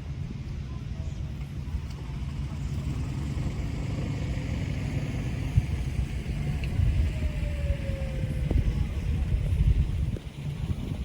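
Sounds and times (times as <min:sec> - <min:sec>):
golf cart rolling: 0:01.2 - 0:11.0.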